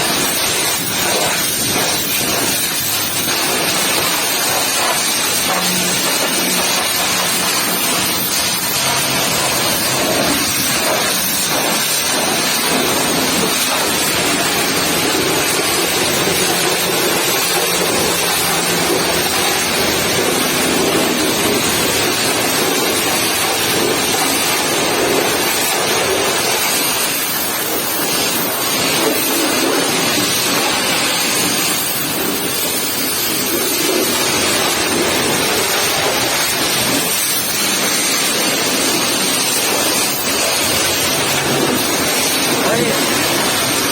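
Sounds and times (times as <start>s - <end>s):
pressure washer spraying: 0.0s - 43.9s.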